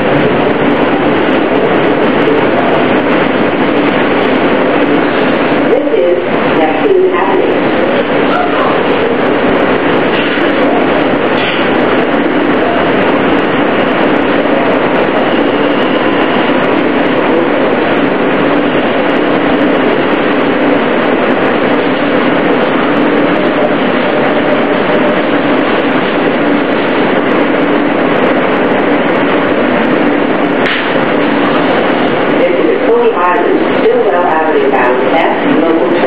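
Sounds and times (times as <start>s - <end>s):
subway car wheels rumbling on rail: 0.0s - 36.0s.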